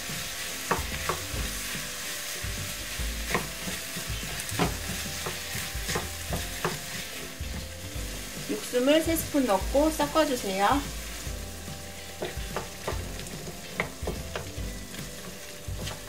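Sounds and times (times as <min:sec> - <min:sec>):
vegetables sizzling in a pan: 0:00.0 - 0:16.0
spoon scraping a pan: 0:00.4 - 0:08.6, 0:11.0 - 0:16.0.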